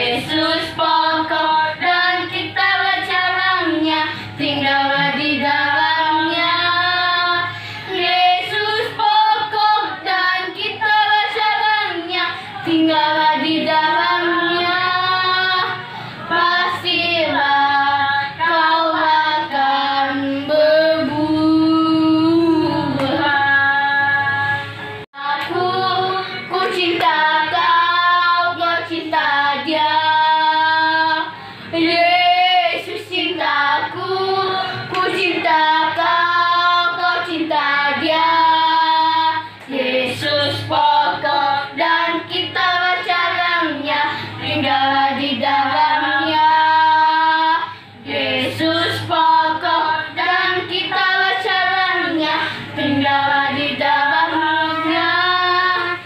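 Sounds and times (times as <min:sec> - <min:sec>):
backing music: 0:00.0 - 0:56.0
child and woman singing: 0:00.0 - 0:56.0.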